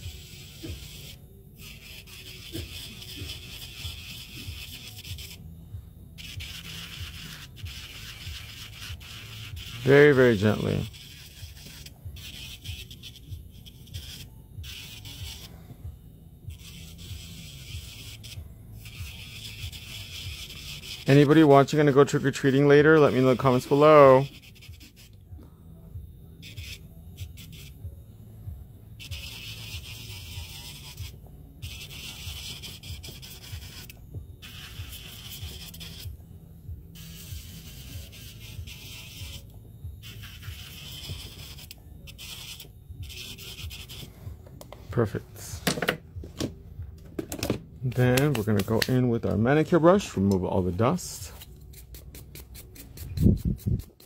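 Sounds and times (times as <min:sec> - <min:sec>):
electric nail file sanding: 0:00.0 - 0:25.3, 0:26.0 - 0:44.4, 0:50.0 - 0:54.0.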